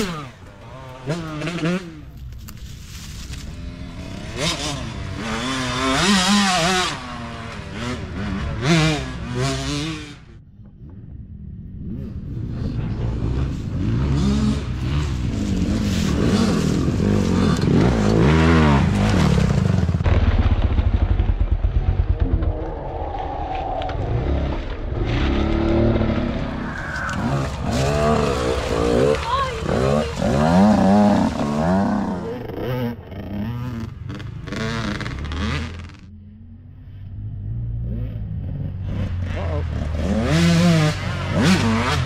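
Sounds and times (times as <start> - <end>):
dirt bike engines revving: 0.0 - 2.3, 3.3 - 20.0, 21.4 - 42.0.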